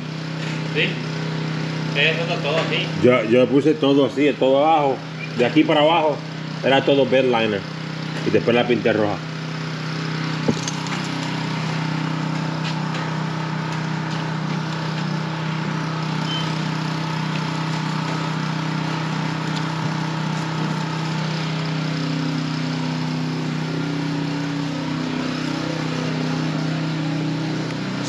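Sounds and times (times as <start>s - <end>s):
motor humming with hiss: 0.0s - 28.0s.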